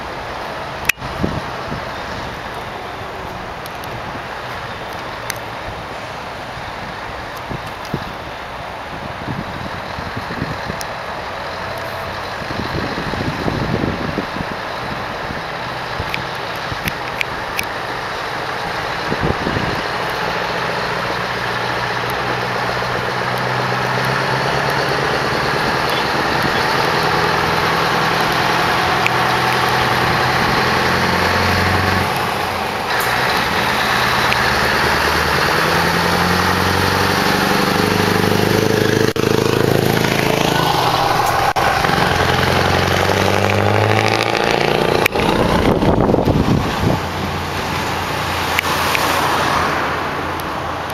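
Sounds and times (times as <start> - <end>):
truck engine driving past: 9.5 - 50.9.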